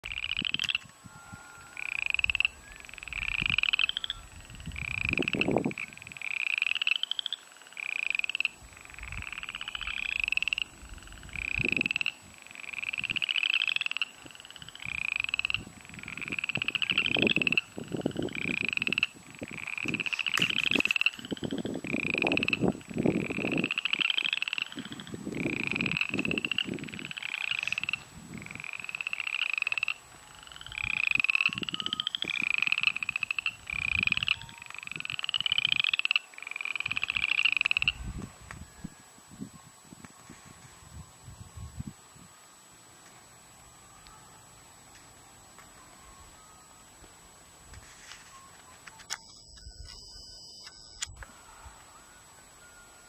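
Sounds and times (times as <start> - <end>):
frogs calling in trills: 0.0 - 53.0.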